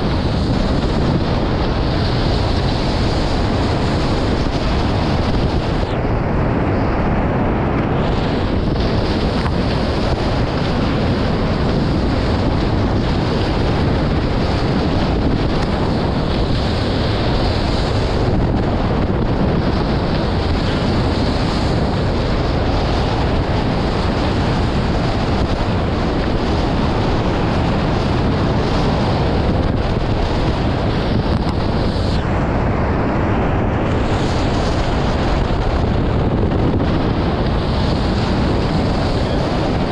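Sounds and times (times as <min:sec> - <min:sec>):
water rushing past hulls: 0:00.0 - 0:39.9
wind buffeting microphone: 0:00.0 - 0:39.9.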